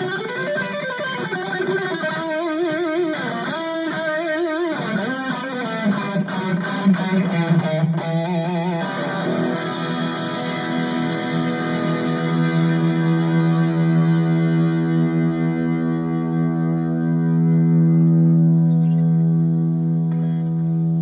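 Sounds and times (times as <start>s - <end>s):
electric guitar notes: 0.0s - 21.0s.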